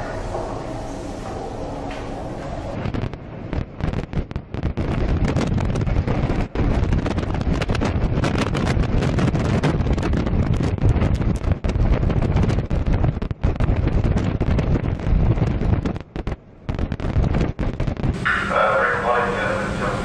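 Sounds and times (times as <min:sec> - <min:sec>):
storm wind buffeting microphone: 0:00.0 - 0:20.0.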